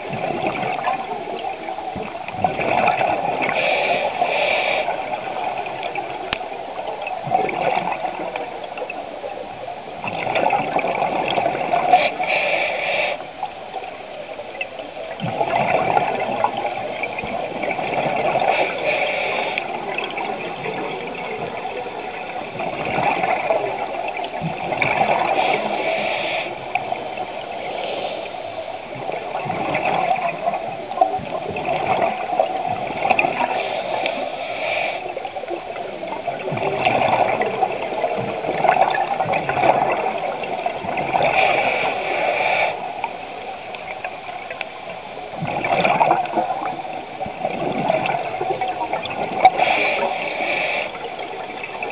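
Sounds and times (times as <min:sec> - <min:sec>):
regulator exhaust bubbling underwater: 0:00.0 - 0:03.6, 0:04.8 - 0:12.2, 0:13.3 - 0:18.8, 0:19.6 - 0:25.9, 0:28.6 - 0:34.3, 0:35.0 - 0:42.1, 0:42.7 - 0:50.2.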